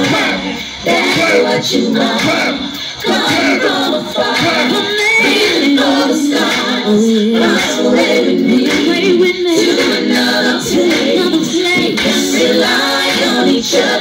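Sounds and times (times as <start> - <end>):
woman singing into microphone: 1.1 - 14.0.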